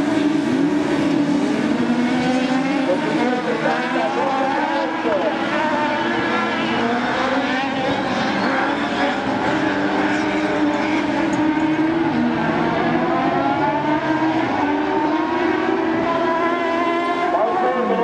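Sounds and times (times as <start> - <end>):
racing buggy engines: 0.0 - 18.0.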